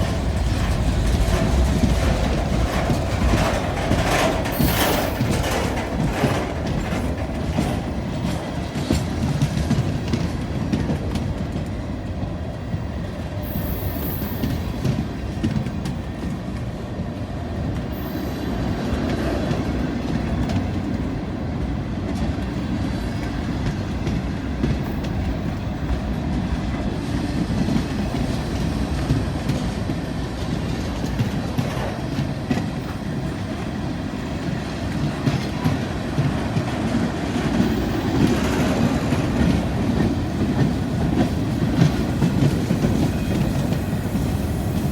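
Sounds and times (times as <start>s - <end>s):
freight train rumbling past: 0.0s - 44.9s
wheels clacking over rail joints: 0.0s - 44.9s.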